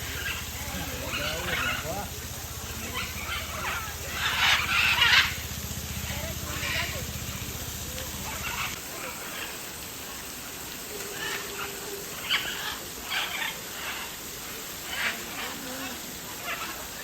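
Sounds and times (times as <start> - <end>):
background murmur: 0.0 - 17.0
bird calls and squawks: 0.0 - 17.0.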